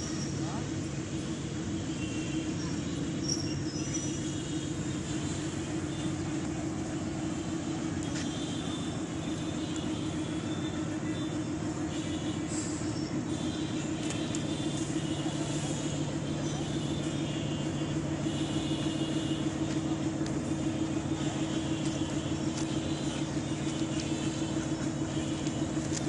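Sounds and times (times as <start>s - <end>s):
diesel train engine drone: 0.0s - 26.0s.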